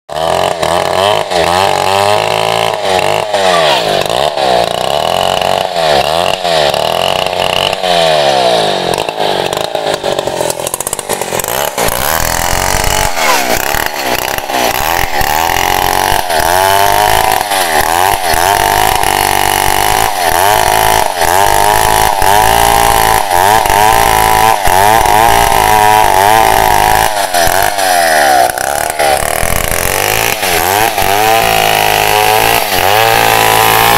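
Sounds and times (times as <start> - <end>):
chainsaw cutting a log: 0.1 - 33.9.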